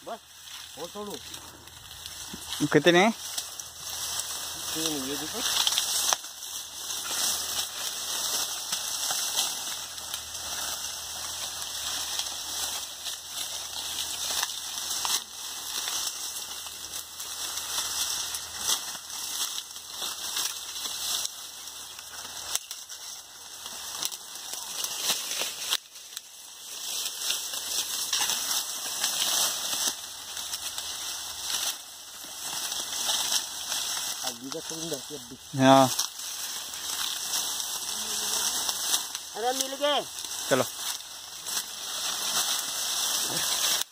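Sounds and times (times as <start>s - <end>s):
dry cane leaves rustling: 0.0s - 43.9s
stalks snapping: 3.2s - 34.8s, 35.9s - 43.9s.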